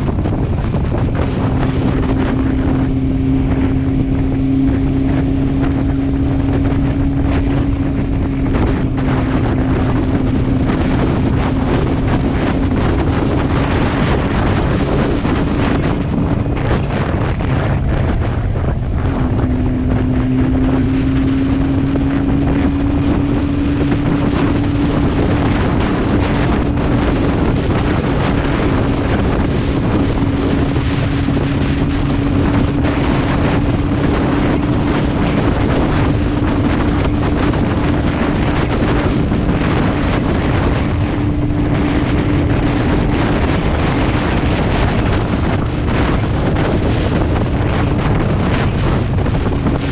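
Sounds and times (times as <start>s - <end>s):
motorcycle engine hum: 0.0s - 49.9s
wind rushing over microphone: 0.0s - 49.9s.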